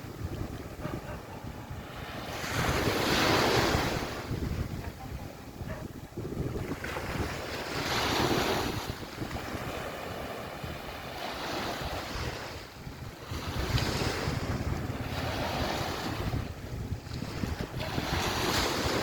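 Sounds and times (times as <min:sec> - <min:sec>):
waves washing ashore: 0:00.0 - 0:19.0
wind rumbling on microphone: 0:00.0 - 0:19.0.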